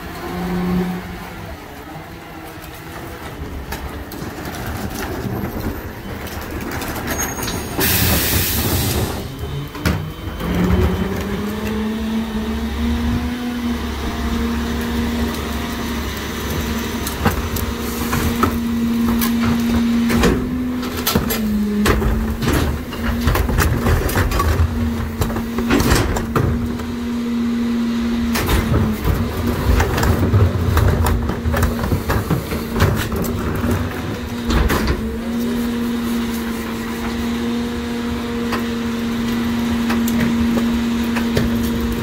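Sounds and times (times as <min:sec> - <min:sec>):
garbage truck engine humming: 0:00.0 - 0:42.0
trash clanking and crunching: 0:00.0 - 0:42.0.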